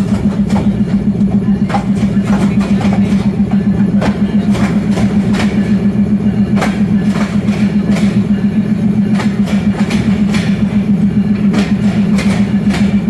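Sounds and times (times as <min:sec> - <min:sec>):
train rumbling at speed: 0:00.0 - 0:13.0
wheels clicking over rail joints: 0:00.0 - 0:13.0.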